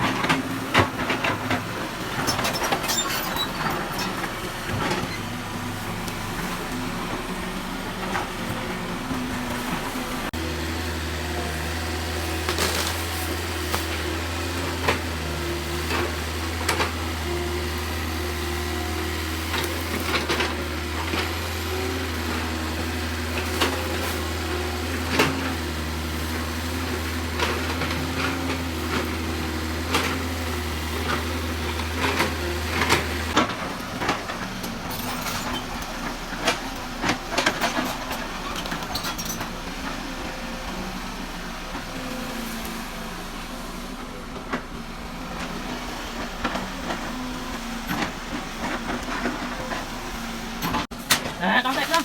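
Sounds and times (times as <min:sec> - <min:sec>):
excavator engine hum: 0:00.0 - 0:52.0.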